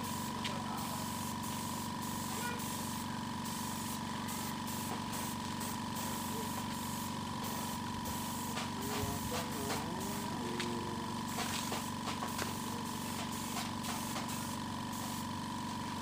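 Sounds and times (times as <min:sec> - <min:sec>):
air compressor humming: 0:00.0 - 0:16.0
air hissing: 0:00.9 - 0:10.4, 0:11.3 - 0:15.3.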